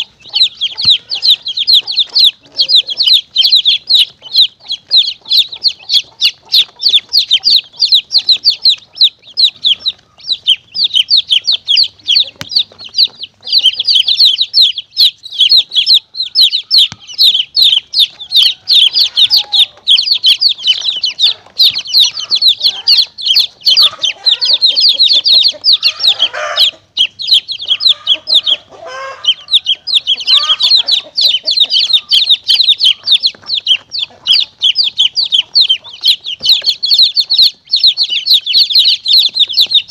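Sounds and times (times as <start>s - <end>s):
chicks peeping rapidly: 0.0s - 39.9s
lower chick calls: 0.0s - 39.9s.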